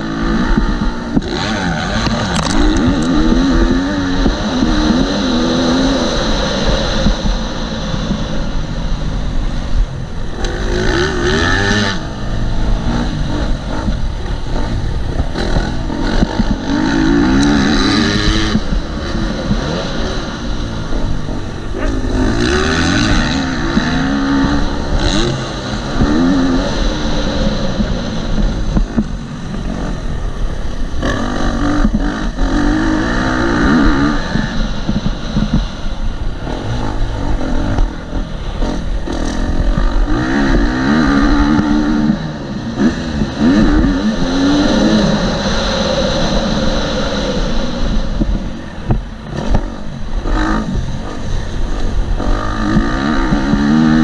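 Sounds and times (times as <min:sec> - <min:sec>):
dirt bike engine revving: 0:00.0 - 0:54.0
low wind rumble: 0:00.0 - 0:54.0.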